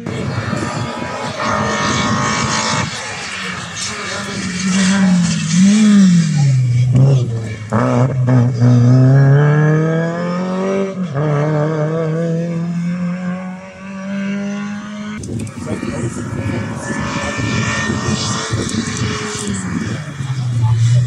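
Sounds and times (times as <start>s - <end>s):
rally car engine accelerating: 0.0s - 21.0s.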